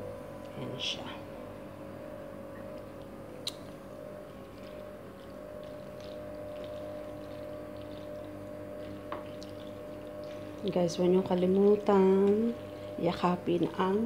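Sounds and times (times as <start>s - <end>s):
hum of held tones: 0.0s - 14.0s.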